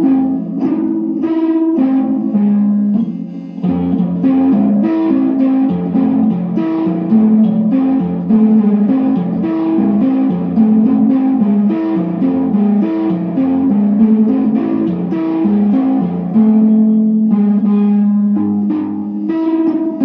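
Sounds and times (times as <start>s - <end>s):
electric kalimba melody with effects: 0.0s - 20.0s.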